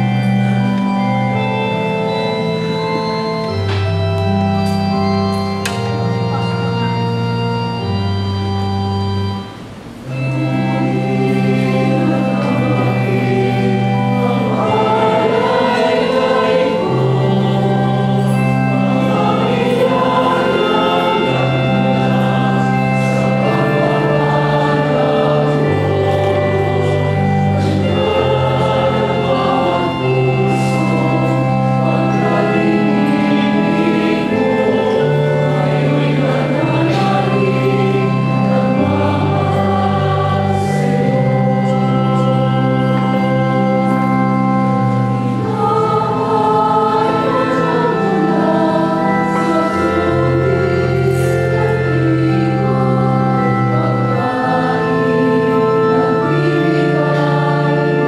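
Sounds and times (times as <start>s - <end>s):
choir singing a hymn: 0.0s - 58.0s
organ chords: 0.0s - 58.0s.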